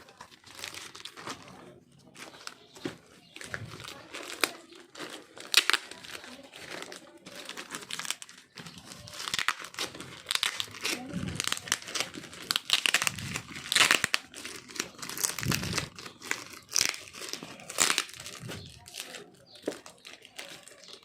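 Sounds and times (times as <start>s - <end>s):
packaging crinkling and rustling: 0.0s - 21.0s
packaging tearing: 0.0s - 21.0s.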